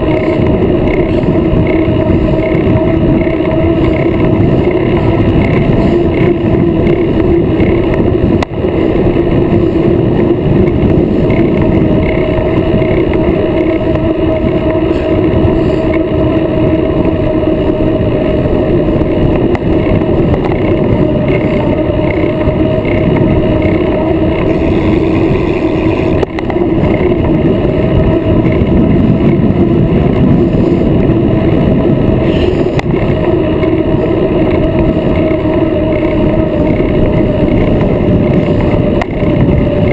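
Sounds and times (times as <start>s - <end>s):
bike tyres rolling on asphalt: 0.0s - 39.9s
wind buffeting microphone: 0.0s - 39.9s.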